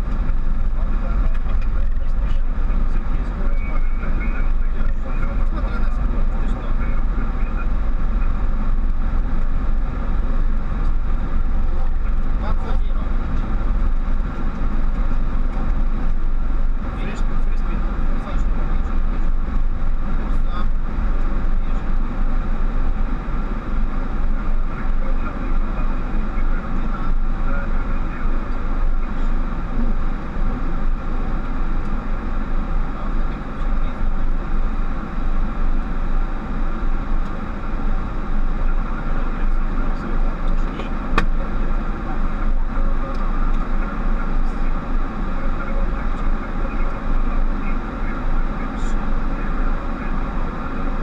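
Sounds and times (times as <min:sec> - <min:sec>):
engine and airflow noise: 0:00.0 - 0:51.0.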